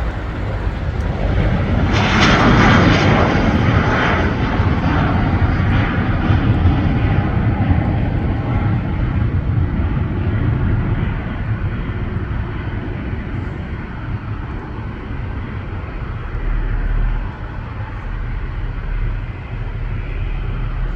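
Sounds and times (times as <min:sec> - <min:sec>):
jet engines rumbling: 0:00.0 - 0:20.9.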